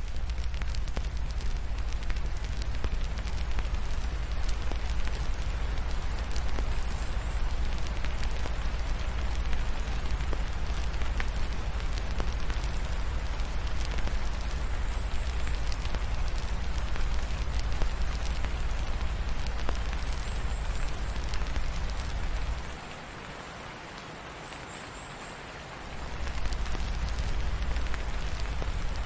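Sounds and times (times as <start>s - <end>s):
wood fire crackling: 0.0s - 23.2s, 25.8s - 29.0s
rain patter: 0.0s - 29.0s.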